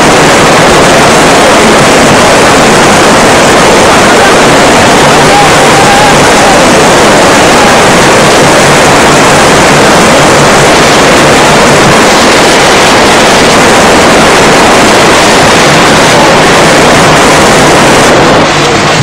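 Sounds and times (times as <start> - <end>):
flood water rushing roar: 0.0 - 19.0.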